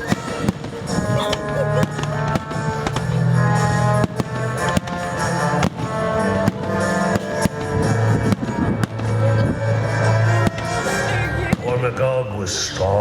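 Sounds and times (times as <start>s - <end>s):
dramatic music with held chords: 0.2s - 11.8s.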